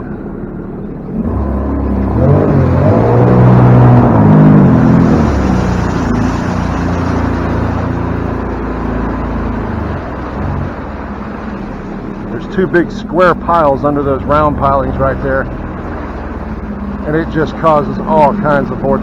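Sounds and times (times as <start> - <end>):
watercraft engine throttling up: 0.0 - 19.0.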